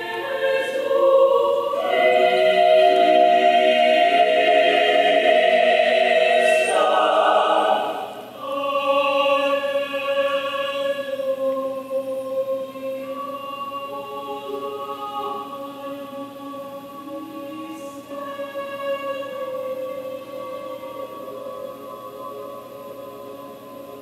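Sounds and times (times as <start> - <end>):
mixed choir singing held chords: 0.0 - 24.0.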